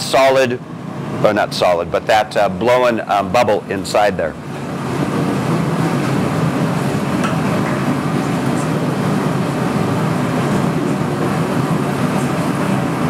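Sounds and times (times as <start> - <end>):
gas furnace rumbling: 0.0 - 13.0.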